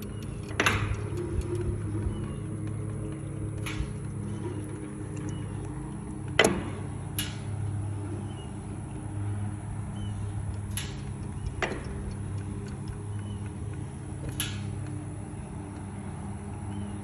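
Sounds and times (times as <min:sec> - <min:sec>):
steady low hum: 0:00.0 - 0:17.0
windmill clunking: 0:00.0 - 0:17.0.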